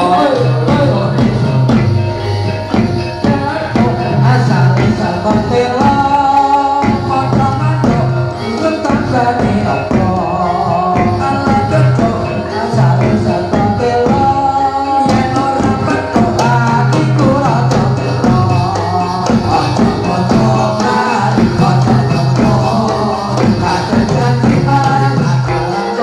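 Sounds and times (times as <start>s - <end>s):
drumming: 0.0s - 26.0s
jingling percussion: 0.0s - 26.0s
melodic instruments: 0.0s - 26.0s
person singing: 0.0s - 26.0s.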